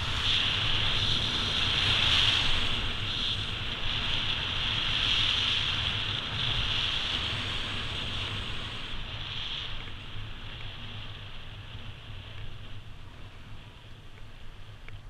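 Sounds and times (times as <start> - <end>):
skis hissing on snow: 0.0 - 12.6
wind on microphone: 0.0 - 15.0.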